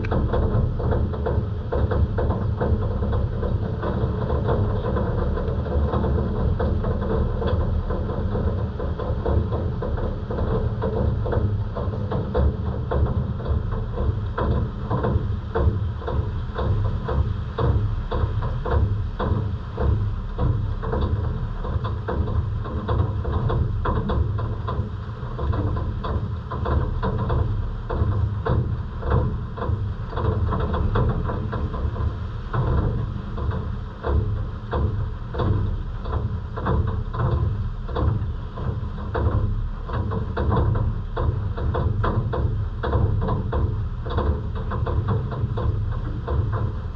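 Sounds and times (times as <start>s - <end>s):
low rain rumble: 0.0s - 46.9s
raindrops tapping: 0.0s - 46.9s.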